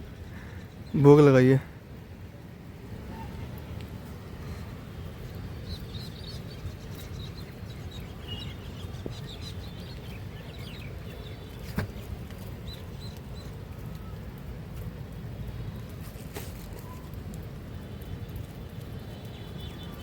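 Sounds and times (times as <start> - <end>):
small birds chirping: 0.0 - 1.6, 3.1 - 20.0.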